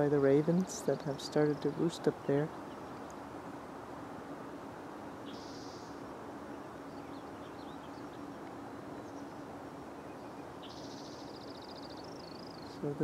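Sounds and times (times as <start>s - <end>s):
small birds calling: 0.0s - 3.5s, 5.1s - 13.0s
faint low hum and hiss: 0.0s - 13.0s.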